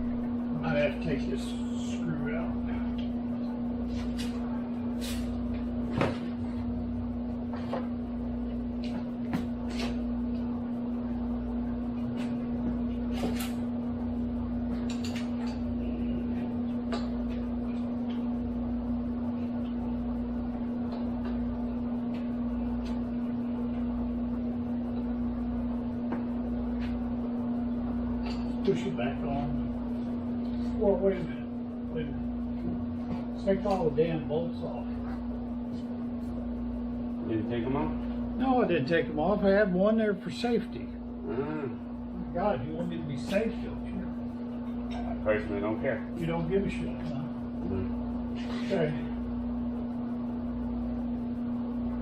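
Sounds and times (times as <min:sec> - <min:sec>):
steady pulsing hum: 0:00.0 - 0:52.0.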